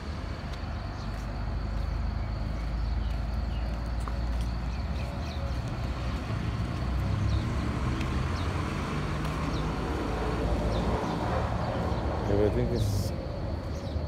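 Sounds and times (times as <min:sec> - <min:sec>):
city street rumble: 0:00.0 - 0:14.0.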